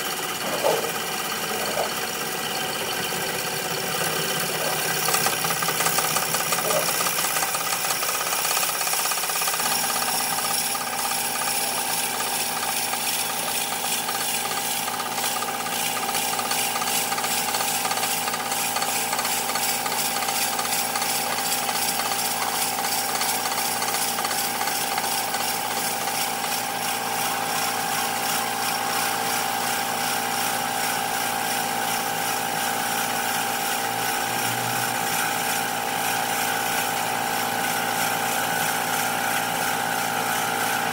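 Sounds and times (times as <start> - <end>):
wood lathe humming and rattling: 0.0 - 40.9.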